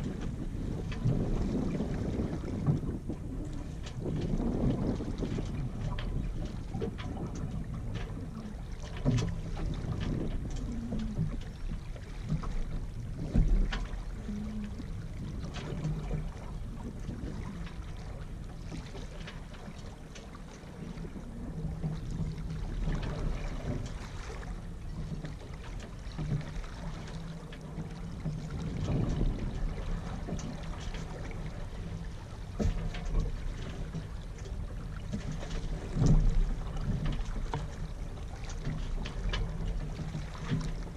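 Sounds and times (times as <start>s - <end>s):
short knocks from boat: 0.0s - 40.9s
water lapping along boat hull: 0.0s - 40.9s
wind rumbling on microphone: 0.0s - 40.9s.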